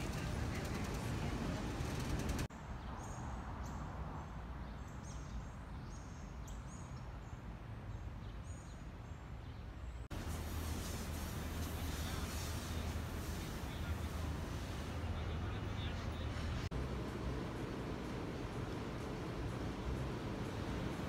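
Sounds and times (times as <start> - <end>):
city street noise: 0.0 - 21.0.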